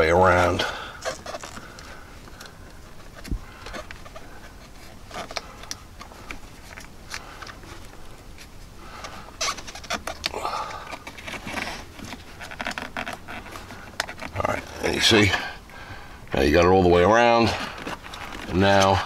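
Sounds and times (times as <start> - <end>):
rubber scraping on plastic: 0.0 - 15.6, 16.4 - 19.0.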